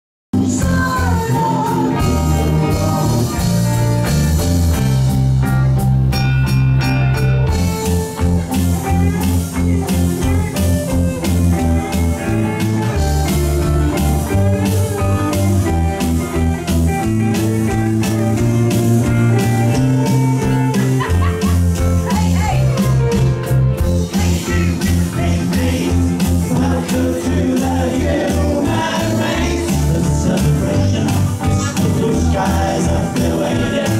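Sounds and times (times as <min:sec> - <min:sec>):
live rock band playing: 0:00.4 - 0:33.9.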